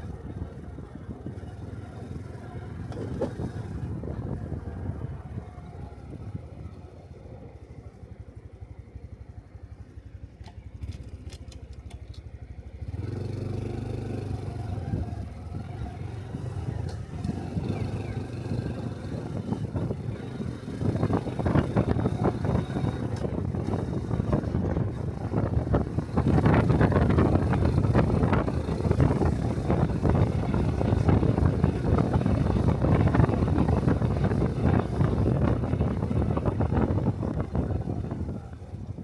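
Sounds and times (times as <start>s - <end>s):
wind noise: 0.0s - 6.8s, 13.0s - 39.0s
motorcycle engine running: 0.0s - 39.0s
road noise: 0.0s - 39.0s.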